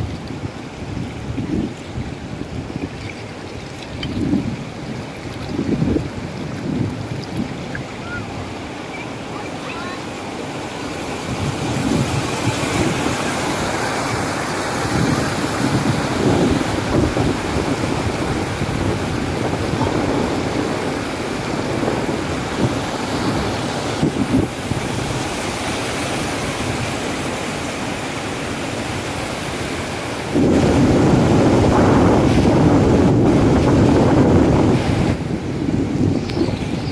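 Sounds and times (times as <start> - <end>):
wind rumble on microphone: 0.0 - 10.0, 10.7 - 36.9
river water rushing over weir: 0.0 - 36.9.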